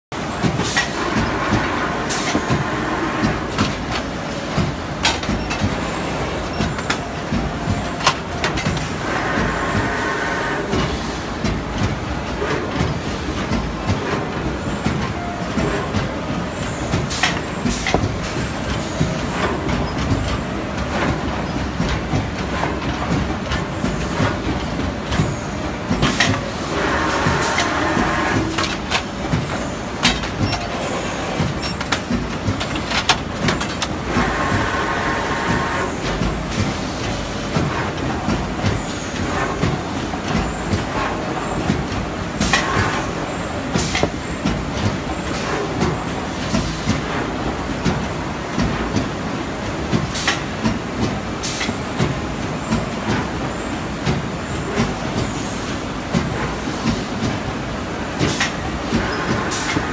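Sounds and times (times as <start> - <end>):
hydraulic press machine noise: 0.2 - 59.9.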